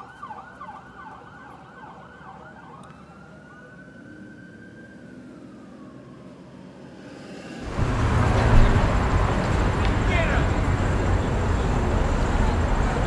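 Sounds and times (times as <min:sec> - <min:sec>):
emergency vehicle siren: 0:00.0 - 0:13.0
low traffic rumble: 0:00.0 - 0:13.0.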